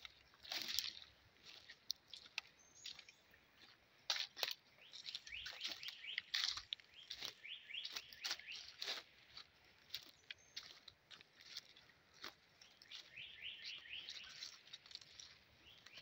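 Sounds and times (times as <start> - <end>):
footsteps crunching dry leaves: 0.0 - 16.0
bird chirping: 2.1 - 3.8, 4.4 - 16.0.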